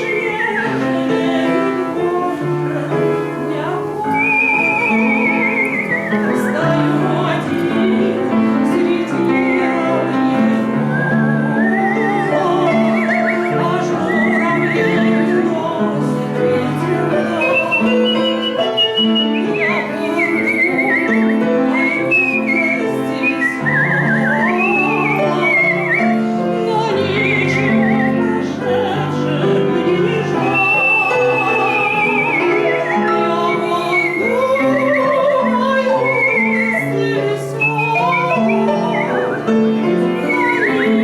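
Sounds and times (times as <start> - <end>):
person whistling a melody: 0.0 - 1.1, 3.9 - 7.7, 9.0 - 15.5, 17.2 - 28.6, 30.2 - 41.0
piano accompaniment: 0.0 - 41.0.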